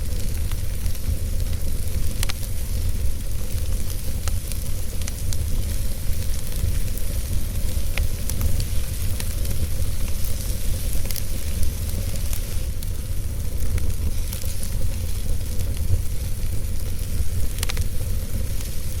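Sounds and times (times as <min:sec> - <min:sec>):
burning wood crackling and popping: 0:00.0 - 0:19.0
fire flames rumbling: 0:00.0 - 0:19.0.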